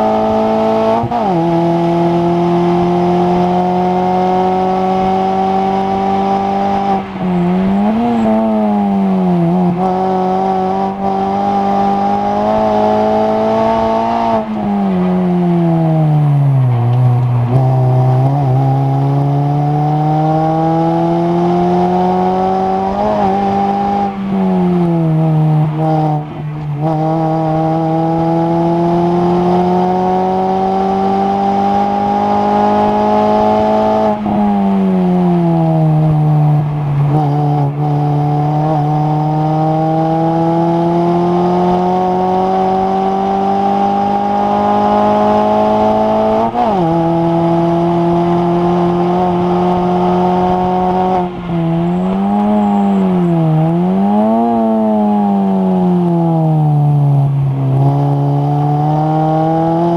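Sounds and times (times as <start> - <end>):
racing car engine accelerating: 0.0 - 59.9.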